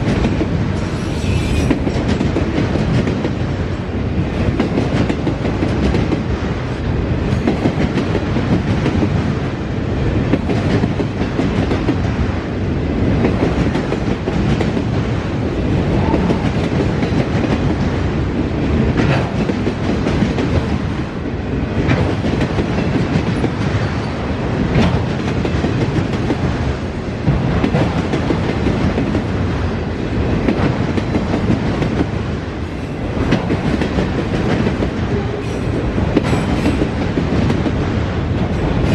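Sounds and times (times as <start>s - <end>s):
freight cars rumbling: 0.0s - 8.6s, 12.8s - 28.7s, 29.5s - 38.9s.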